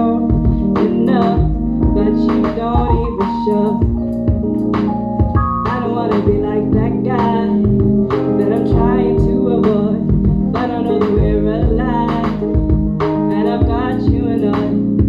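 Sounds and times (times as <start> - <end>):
woman singing: 0.0 - 4.1, 5.7 - 15.0.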